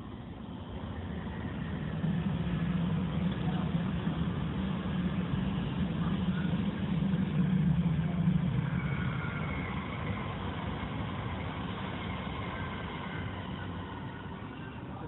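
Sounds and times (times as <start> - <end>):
train passing with low rumble: 0.0 - 15.0.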